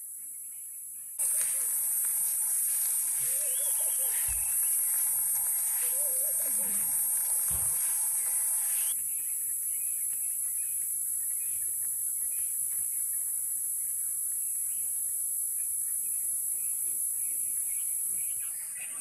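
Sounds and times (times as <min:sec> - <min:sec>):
faint insect chirps: 0:00.0 - 0:19.0
high-pitched insect chorus: 0:00.5 - 0:19.0.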